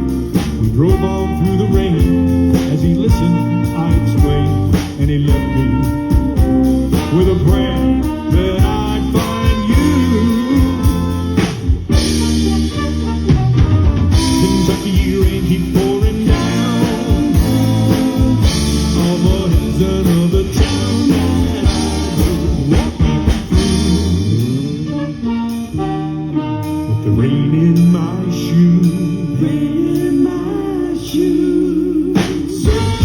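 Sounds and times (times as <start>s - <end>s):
person singing lead vocal: 0.0s - 12.3s, 14.1s - 33.0s
electric guitar: 0.0s - 33.0s
live band playing country ballad: 0.0s - 33.0s.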